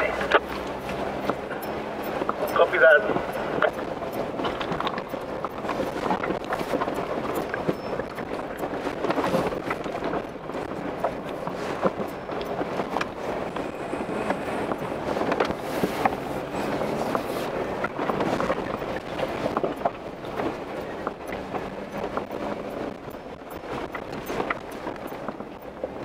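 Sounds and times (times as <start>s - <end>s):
low vehicle running noise: 0.0s - 26.0s.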